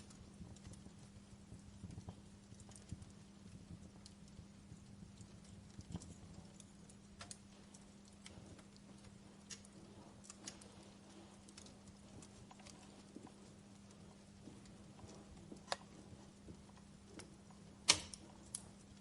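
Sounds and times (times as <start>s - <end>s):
campfire crackling: 0.0s - 19.0s
faint low hum: 0.0s - 19.0s.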